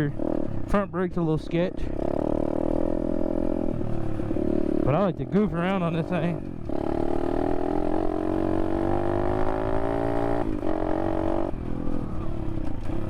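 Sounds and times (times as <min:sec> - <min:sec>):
pit bike engine revving: 0:01.5 - 0:12.6.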